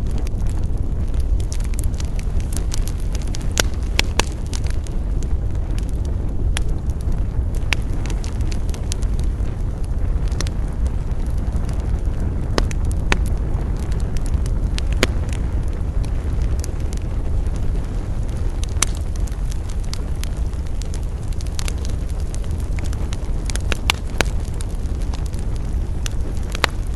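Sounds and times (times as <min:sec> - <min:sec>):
burning wood crackling and popping: 0:00.0 - 0:26.9
campfire low rumble: 0:00.0 - 0:26.9.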